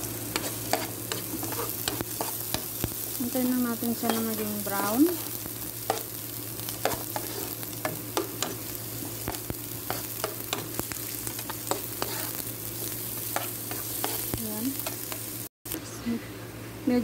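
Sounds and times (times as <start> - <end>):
onions sizzling in oil: 0.0 - 15.5.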